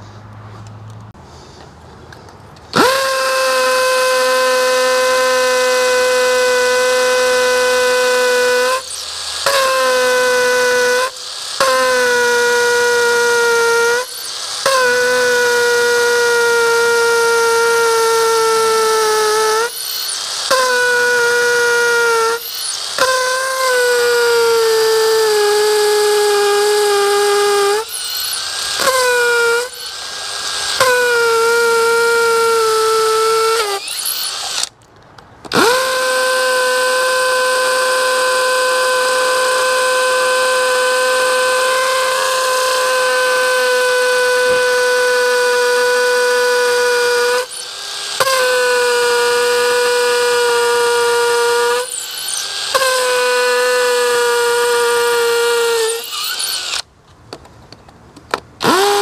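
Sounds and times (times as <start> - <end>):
drill boring into brick: 2.7 - 34.8, 35.4 - 56.9, 58.3 - 59.0.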